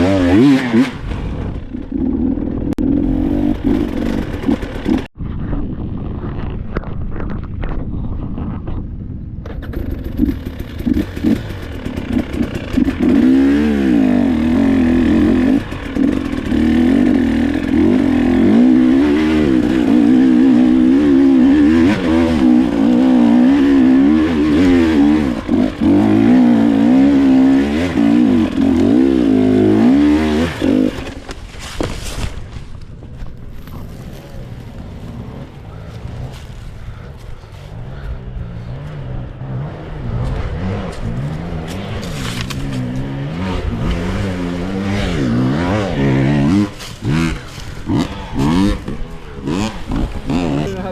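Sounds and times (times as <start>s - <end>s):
dirt bike engine revving: 0.0s - 5.1s, 9.6s - 31.3s, 33.5s - 50.9s.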